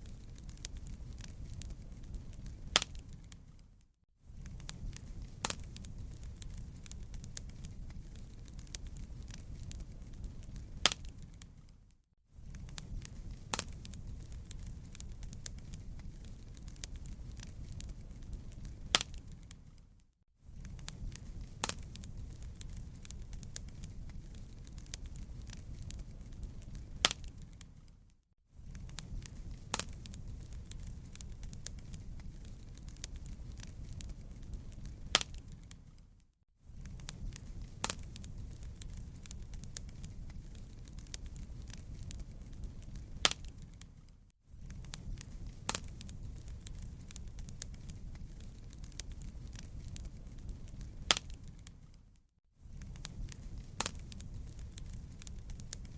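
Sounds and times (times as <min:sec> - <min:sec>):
sharp pops and snaps: 0:00.0 - 0:19.9, 0:20.6 - 0:52.2, 0:52.8 - 0:55.9
wood fire crackling: 0:00.0 - 0:55.9.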